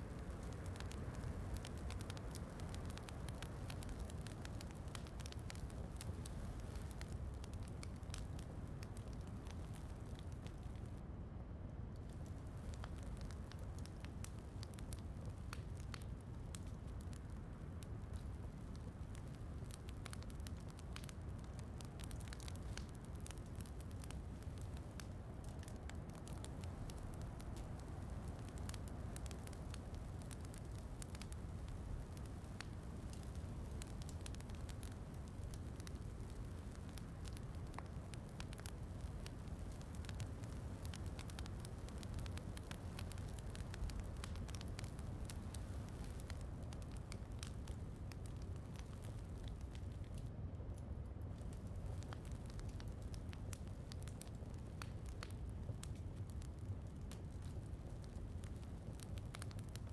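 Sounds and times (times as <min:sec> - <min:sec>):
wood fire crackling: 0:00.0 - 0:11.2, 0:11.9 - 0:59.9.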